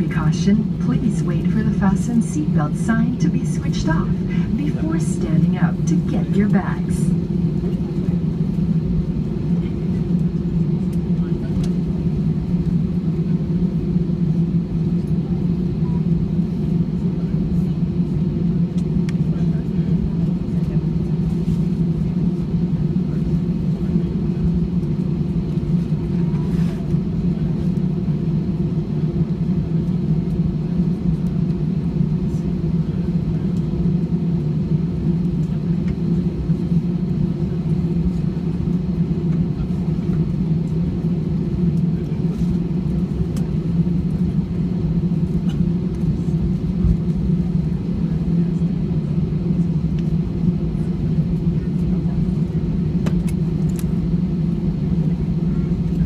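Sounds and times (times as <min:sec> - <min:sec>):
jet airliner cabin rumble: 0:00.0 - 0:56.0.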